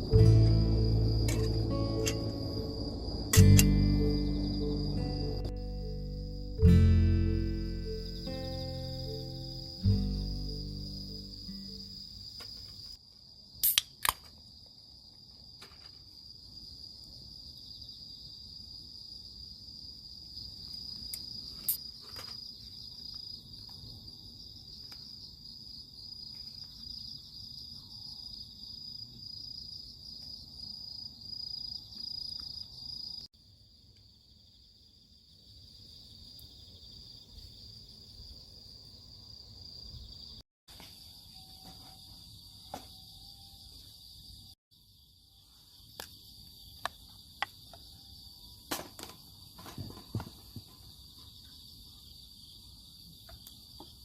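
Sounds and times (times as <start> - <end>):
insects chirping chorus: 0.0 - 54.0.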